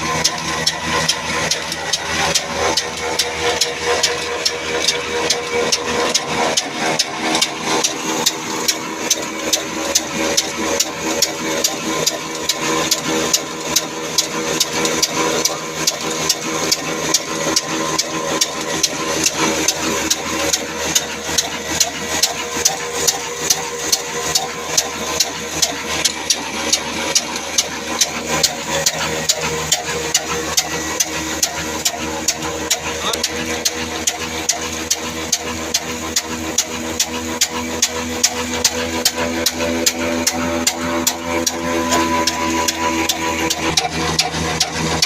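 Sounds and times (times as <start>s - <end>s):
diesel engine beating steadily: 0.0s - 45.0s.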